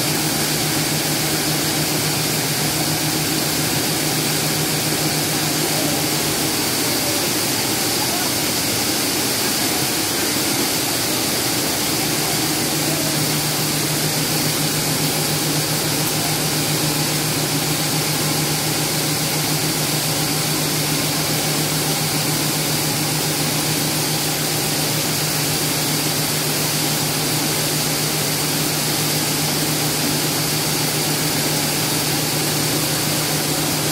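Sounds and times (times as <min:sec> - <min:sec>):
low machine hum: 0:00.0 - 0:33.9
machine whirring and hissing: 0:00.0 - 0:33.9.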